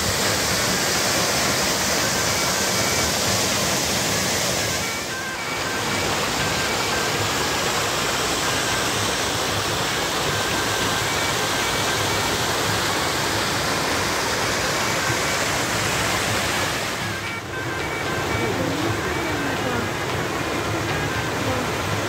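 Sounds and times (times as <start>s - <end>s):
waterfall rushing water: 0.0s - 22.0s.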